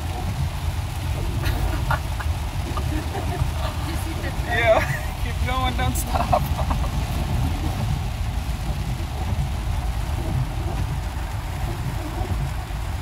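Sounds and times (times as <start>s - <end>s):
hiss of rain and water: 0.0s - 13.0s
van driving rumble: 0.0s - 13.0s.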